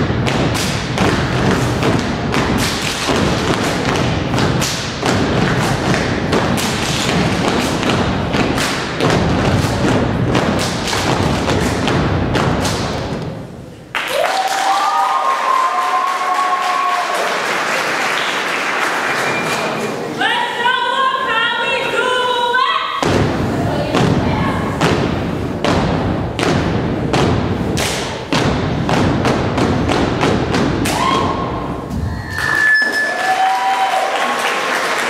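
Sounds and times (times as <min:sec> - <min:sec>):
stomping and clapping rhythm: 0:00.0 - 0:20.0, 0:23.0 - 0:32.1, 0:33.2 - 0:35.0.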